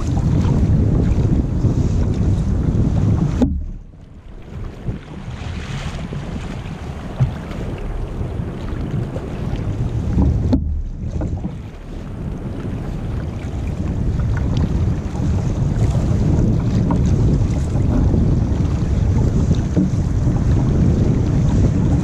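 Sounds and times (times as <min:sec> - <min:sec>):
water splashing along kayak hull: 0:00.0 - 0:22.0
wind buffeting microphone: 0:00.0 - 0:22.0.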